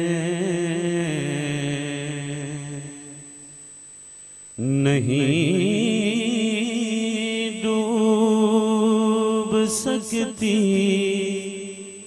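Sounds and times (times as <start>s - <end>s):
man singing unaccompanied: 0.0s - 3.6s, 4.6s - 12.0s.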